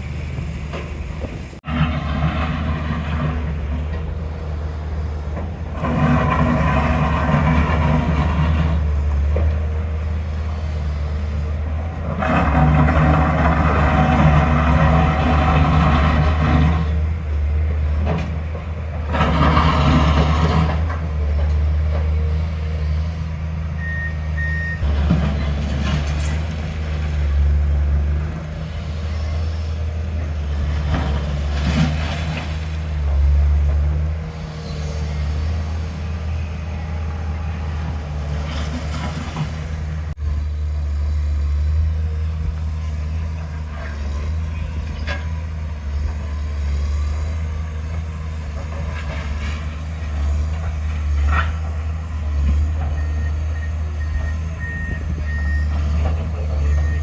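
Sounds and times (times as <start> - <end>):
diesel construction machinery running: 0.0 - 57.0.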